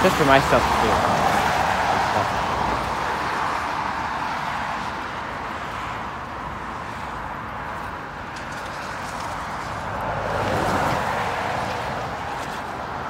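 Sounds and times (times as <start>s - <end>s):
passing vehicle: 0.0s - 13.0s
steady hum of traffic: 0.0s - 13.0s.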